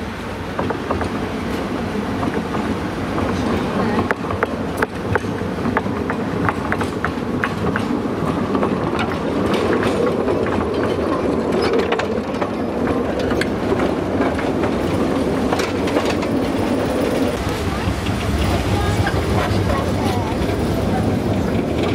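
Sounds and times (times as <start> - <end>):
train rumbling past: 0.0 - 21.9
train wheel clicks and rattles: 0.3 - 21.9.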